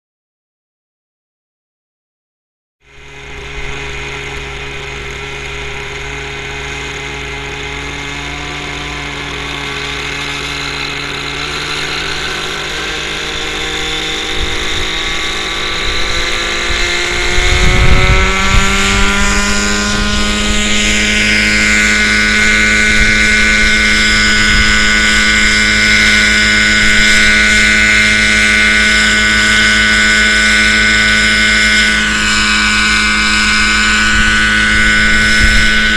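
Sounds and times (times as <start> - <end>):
model helicopter engine and rotors: 2.8 - 35.9.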